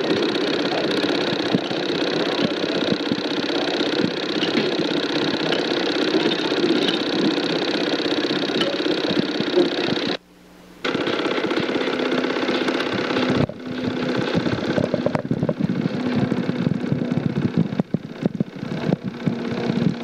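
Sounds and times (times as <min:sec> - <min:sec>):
film projector clattering: 0:00.0 - 0:10.2, 0:10.8 - 0:20.0.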